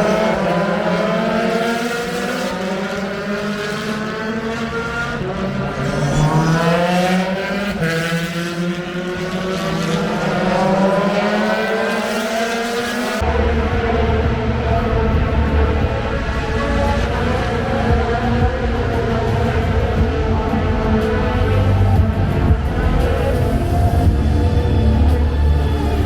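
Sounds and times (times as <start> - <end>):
race car engines revving: 0.0 - 26.0.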